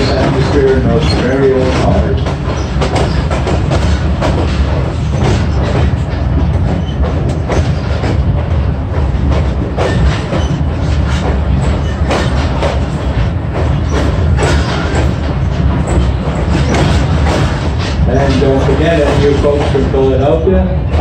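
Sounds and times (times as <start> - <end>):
train rumbling on track: 0.0 - 21.0
wheels clacking over rails: 0.0 - 21.0.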